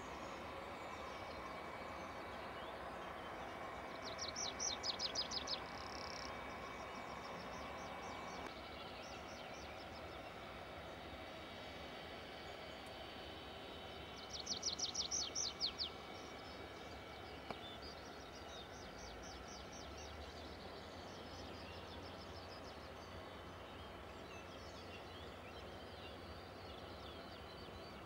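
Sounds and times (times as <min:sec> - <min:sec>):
songbird singing: 0:00.0 - 0:11.0, 0:13.9 - 0:28.0
faint background hum: 0:00.0 - 0:28.0.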